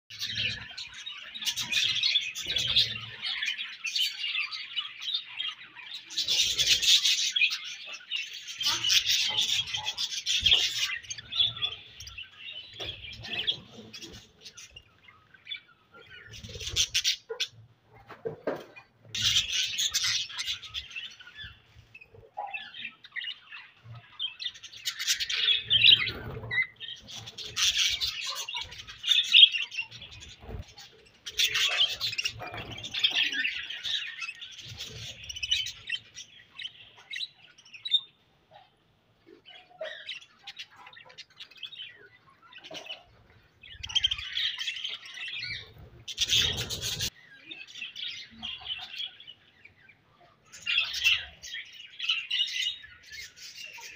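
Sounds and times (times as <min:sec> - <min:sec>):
budgerigars chirping: 0:00.1 - 0:17.6, 0:18.5 - 0:38.2, 0:39.5 - 0:50.0.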